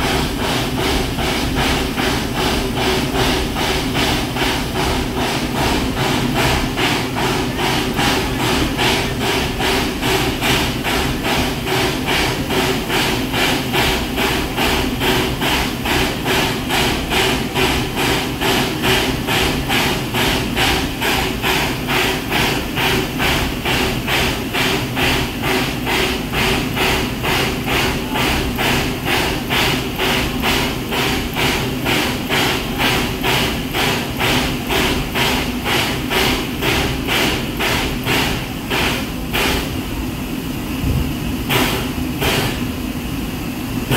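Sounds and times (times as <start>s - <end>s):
steam hiss: 0.0s - 43.9s
steam locomotive thumping: 0.0s - 43.9s.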